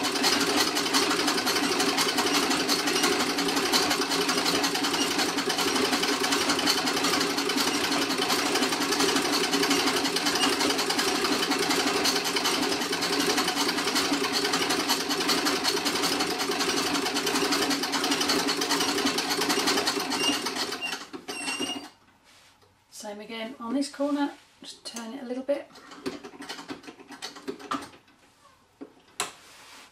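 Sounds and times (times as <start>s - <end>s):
treadle sewing machine clatter: 0.0s - 22.0s, 25.8s - 28.0s.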